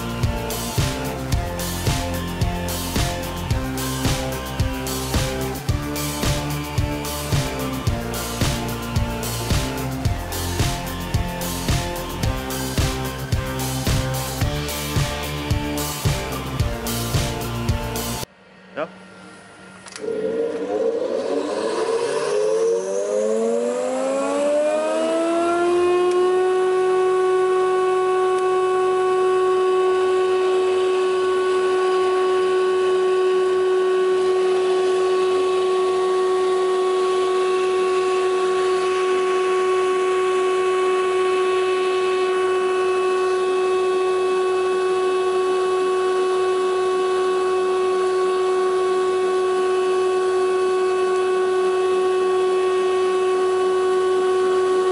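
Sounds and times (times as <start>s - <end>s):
thickness planer whine: 0.0s - 54.9s.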